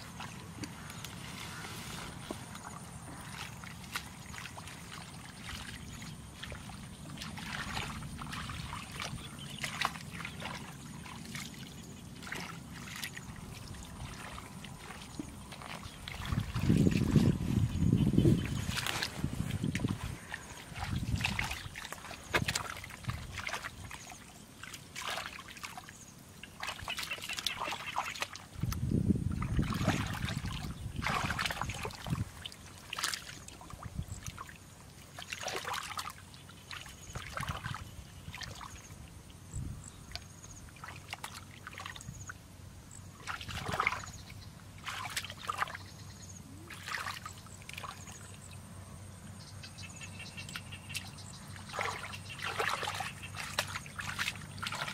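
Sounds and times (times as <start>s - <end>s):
splashing in shallow muddy water: 0.0s - 54.9s.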